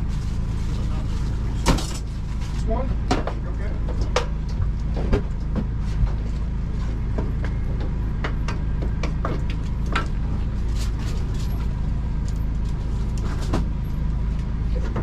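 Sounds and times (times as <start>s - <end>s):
low machine rumble: 0.0s - 15.0s.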